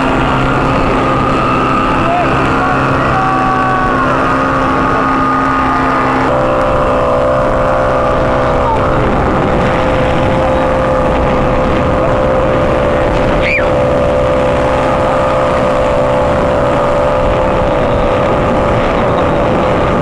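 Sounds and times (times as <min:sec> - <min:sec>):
motorboat engine droning: 0:00.0 - 0:20.0
water rushing past hull: 0:00.0 - 0:20.0.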